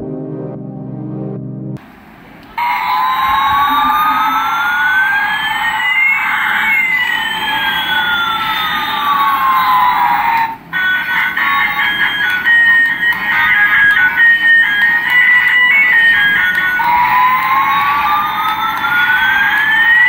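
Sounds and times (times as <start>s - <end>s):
toy electronic jet sound effect: 2.6s - 20.0s.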